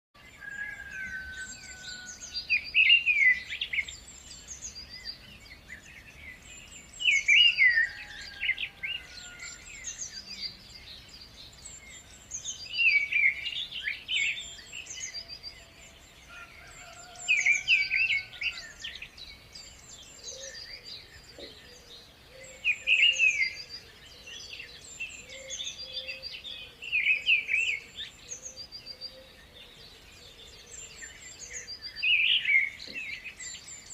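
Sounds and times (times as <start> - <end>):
chorus of bird chirps: 0.2 - 33.9.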